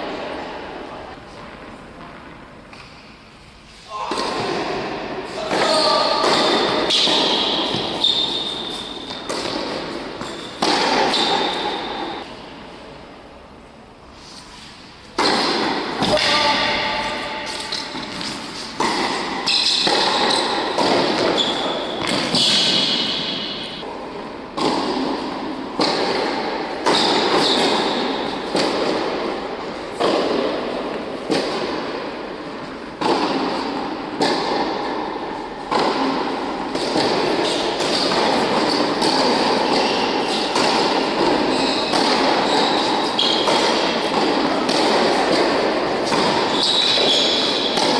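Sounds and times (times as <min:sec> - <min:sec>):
racket hitting tennis ball: 0:00.0 - 0:12.8, 0:14.4 - 0:47.9
tennis ball bouncing on hard court: 0:05.5 - 0:12.4, 0:15.2 - 0:47.9.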